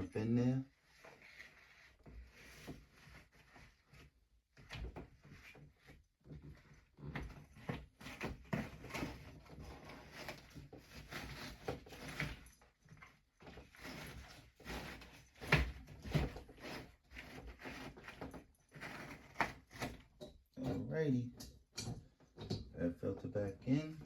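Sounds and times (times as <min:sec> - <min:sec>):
air filter scraping and knocking: 0:01.0 - 0:24.0.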